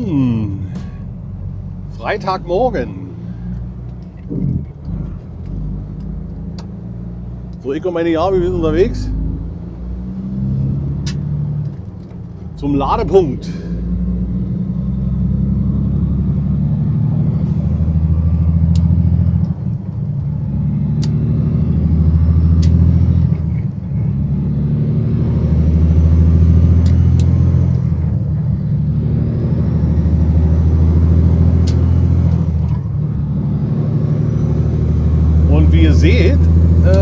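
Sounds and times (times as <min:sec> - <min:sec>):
truck diesel engine pulling: 0:00.0 - 0:37.0.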